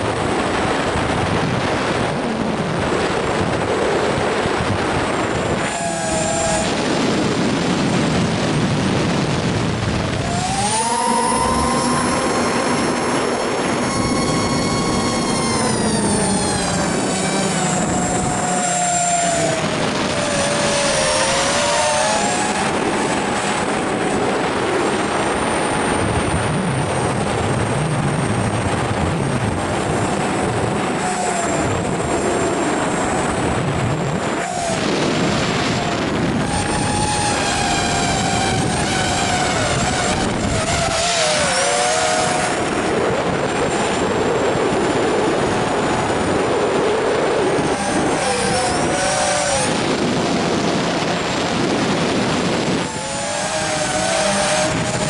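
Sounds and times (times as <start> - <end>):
model airplane motor whining: 0.0 - 55.0
wind on microphone: 0.0 - 55.0.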